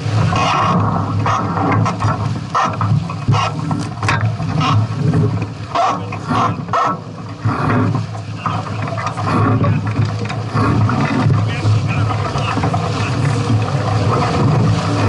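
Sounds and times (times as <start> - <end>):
water noise: 0.0 - 15.0
wind buffeting microphone: 0.0 - 15.0.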